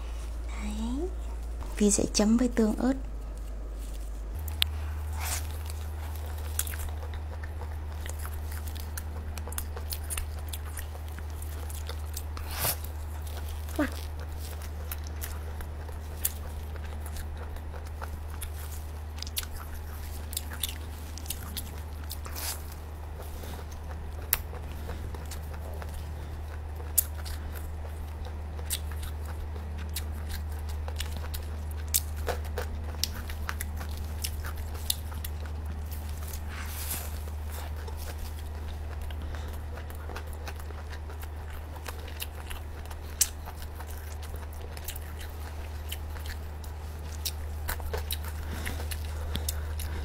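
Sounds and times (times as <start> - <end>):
steady low hum: 0.0 - 50.0
mouth chewing food: 3.1 - 50.0.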